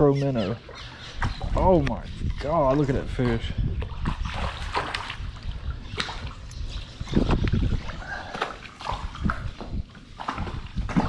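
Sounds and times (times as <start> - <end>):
water splashing and trickling: 0.5 - 11.0.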